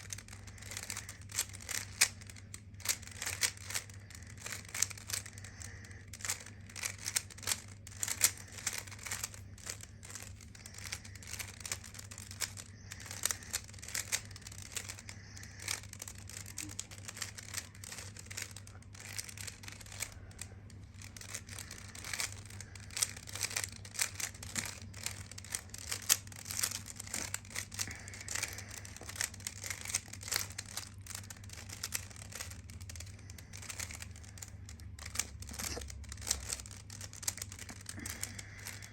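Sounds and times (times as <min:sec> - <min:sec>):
puzzle cube clicking: 0:00.0 - 0:38.9.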